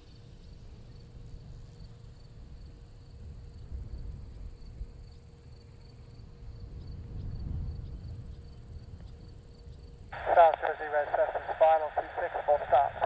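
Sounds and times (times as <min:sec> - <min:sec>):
distant propeller plane drone: 0:00.0 - 0:13.0.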